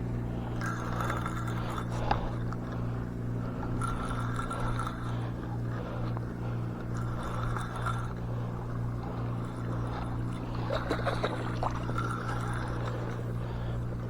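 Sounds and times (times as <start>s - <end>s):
low motor hum: 0.0s - 14.0s
light clicks and scrapes: 0.4s - 14.0s.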